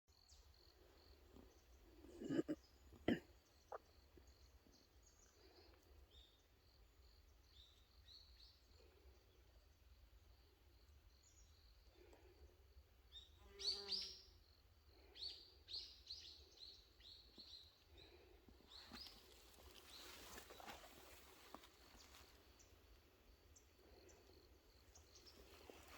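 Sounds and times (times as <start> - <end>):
songbirds chirping: 0.1 - 25.9.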